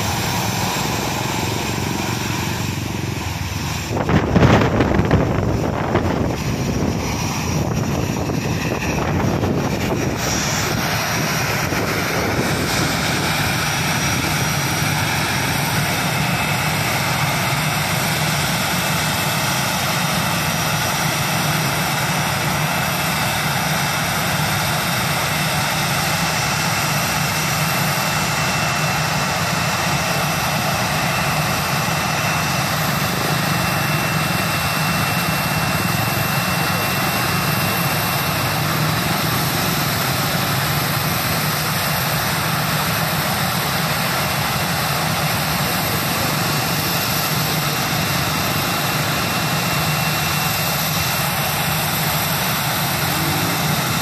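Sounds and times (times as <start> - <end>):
high engine whine: 0.0 - 54.0
jet engines rumbling: 0.0 - 54.0.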